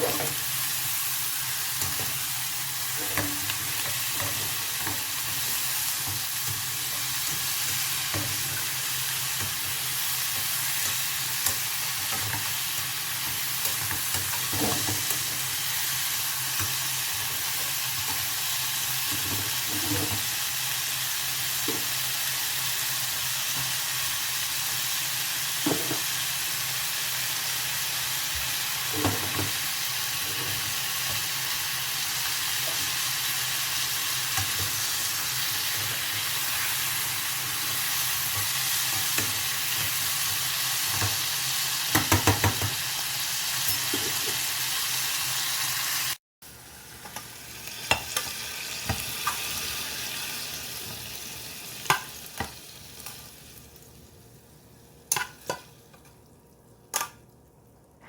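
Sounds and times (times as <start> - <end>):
vegetables sizzling in a pan: 0.0 - 57.2.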